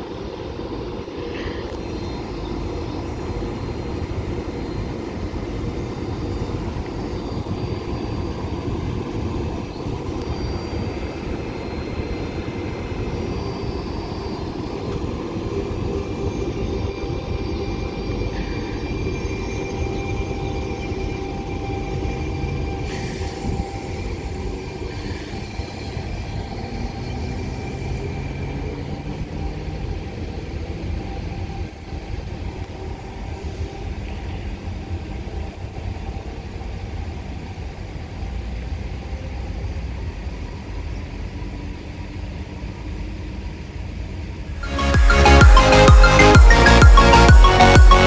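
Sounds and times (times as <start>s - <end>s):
high whine: 0.0s - 35.3s, 44.5s - 48.0s
train rumbling: 0.0s - 48.0s.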